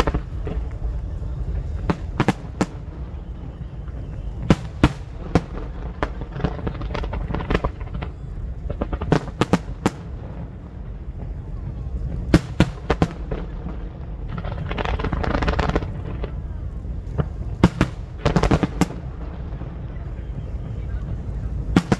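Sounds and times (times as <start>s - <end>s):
fireworks cracking and banging: 0.0s - 21.9s.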